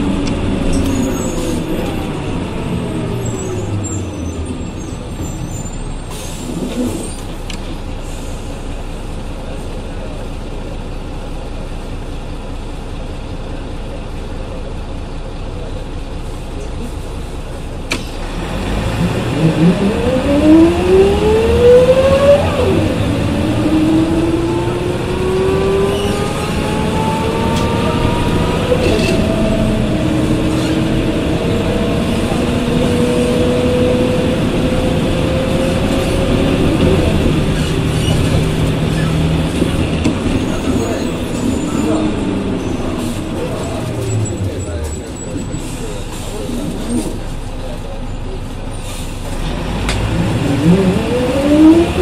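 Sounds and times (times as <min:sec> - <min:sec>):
bus engine accelerating: 0:00.0 - 0:52.0.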